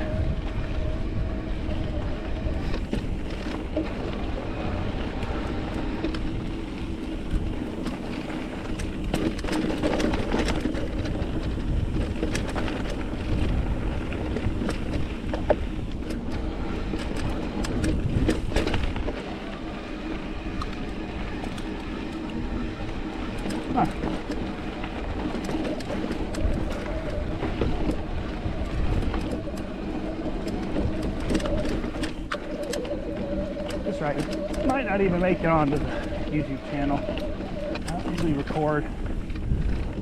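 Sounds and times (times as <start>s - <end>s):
bike clicks and rattles: 0.0s - 40.0s
wind buffeting: 0.0s - 40.0s.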